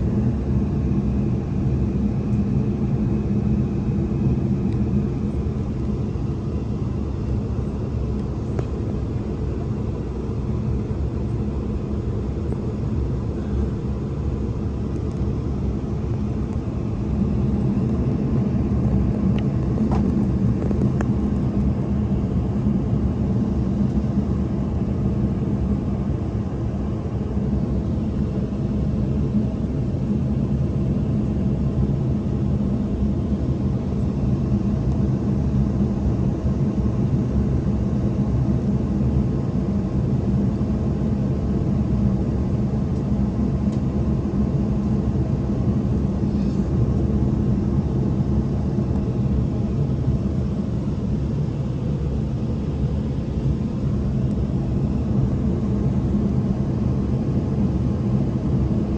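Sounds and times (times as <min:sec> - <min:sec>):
airliner engines rumbling in cabin: 0:00.0 - 0:58.9.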